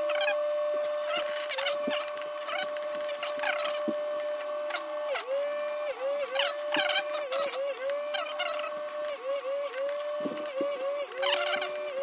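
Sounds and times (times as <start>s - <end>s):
chain grinder motor whine: 0.0s - 12.0s.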